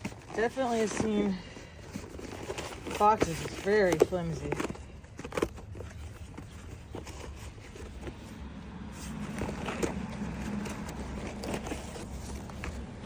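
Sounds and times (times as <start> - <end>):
cardboard box scrapes and rustles: 0.0 - 13.0.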